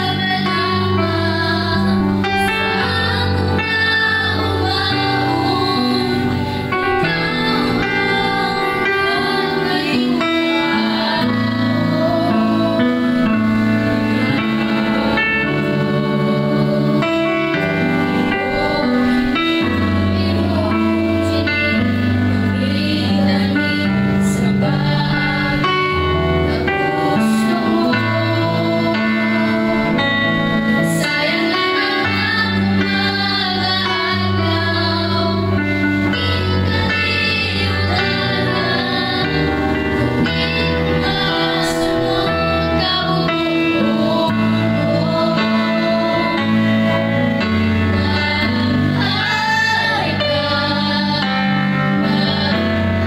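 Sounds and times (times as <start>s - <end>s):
girls singing a worship song: 0.0s - 53.0s
instrumental accompaniment: 0.0s - 53.0s.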